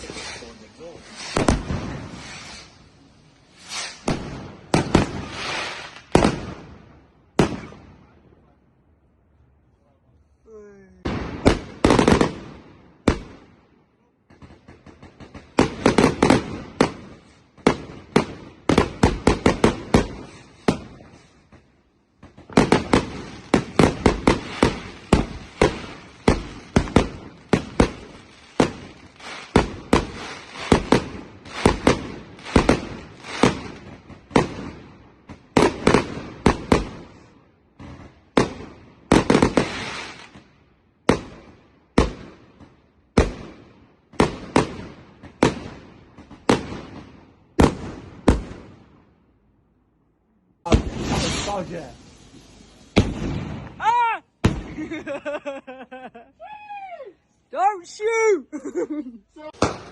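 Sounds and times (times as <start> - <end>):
fireworks bangs and crackles: 0.0 - 8.6, 11.0 - 49.3, 50.6 - 55.6, 59.4 - 59.9.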